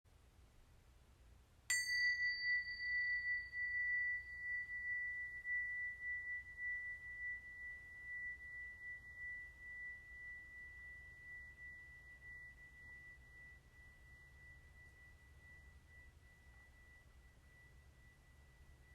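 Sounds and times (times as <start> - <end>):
small metal chime ringing: 1.7 - 18.9.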